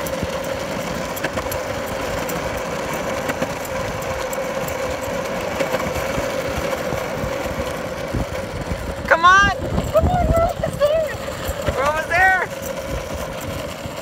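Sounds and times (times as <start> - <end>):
longboard wheels rolling on asphalt: 0.0 - 14.0.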